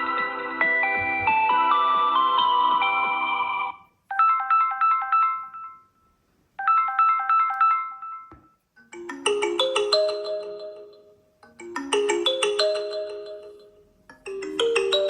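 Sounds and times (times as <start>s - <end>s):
bright plinking ringtone melody: 0.0s - 6.0s, 6.6s - 15.0s
deep phone ringtone melody: 0.0s - 6.0s, 6.6s - 15.0s.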